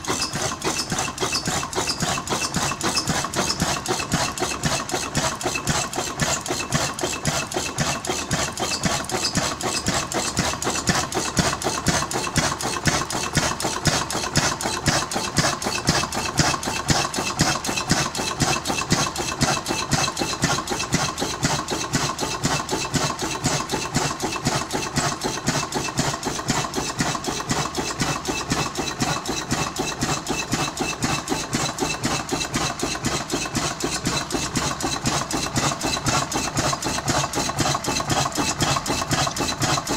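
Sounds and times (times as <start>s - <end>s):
diesel engine idling with clatter: 0.0s - 39.9s.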